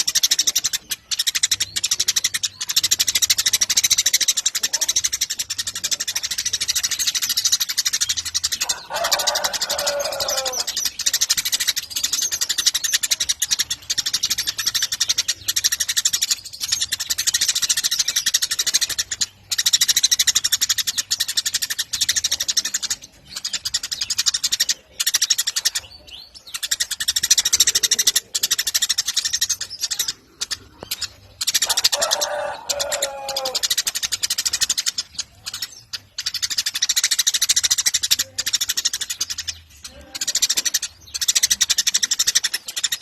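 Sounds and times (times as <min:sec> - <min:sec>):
sparrows chirping: 0:00.0 - 0:43.0.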